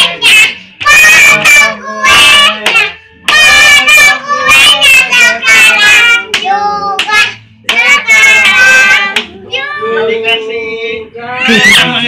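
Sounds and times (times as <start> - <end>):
girls singing: 0.0 - 10.2.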